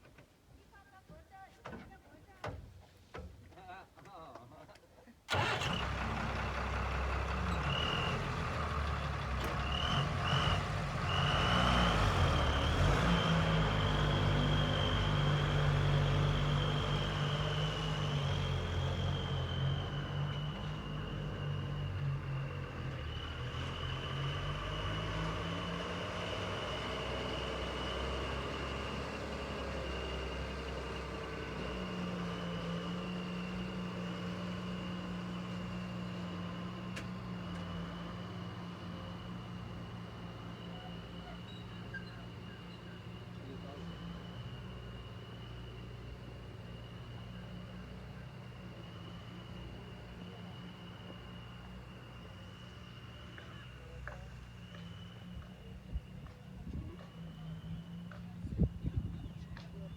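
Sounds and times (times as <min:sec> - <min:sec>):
diesel engine under load: 0:05.3 - 0:59.9.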